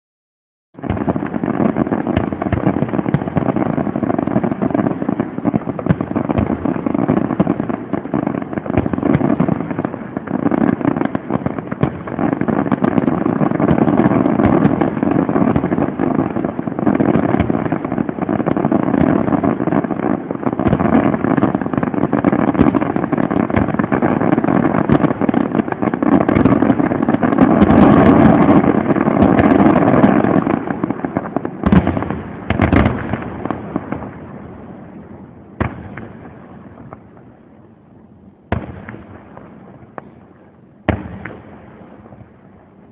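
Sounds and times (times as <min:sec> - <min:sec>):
fireworks bangs and crackling: 0:00.8 - 0:42.9.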